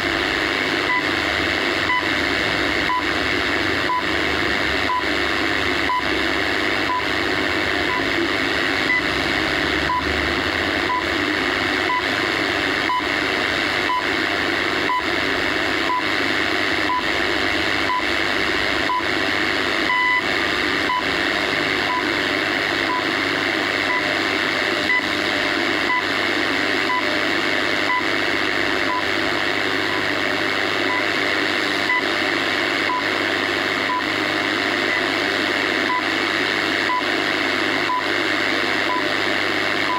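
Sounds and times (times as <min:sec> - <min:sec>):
high time-signal pips: 0:00.0 - 0:04.2, 0:04.8 - 0:10.1, 0:10.8 - 0:39.9
radio static hiss: 0:00.0 - 0:39.9.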